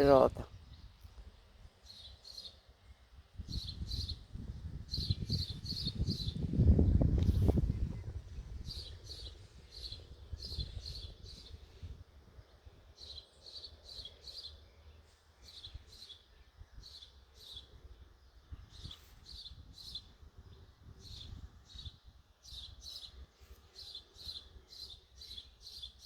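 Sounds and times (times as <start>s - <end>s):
small bird chirping: 0.0s - 26.0s.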